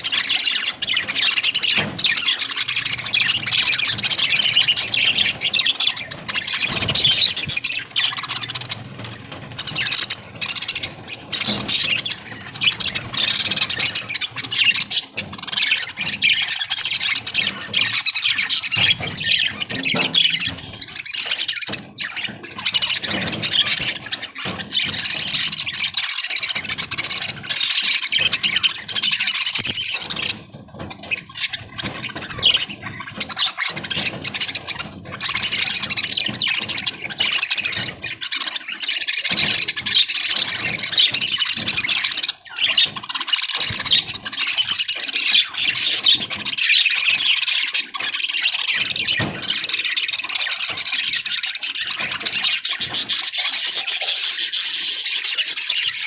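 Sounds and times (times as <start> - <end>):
budgerigars twittering: 0.0 - 56.0.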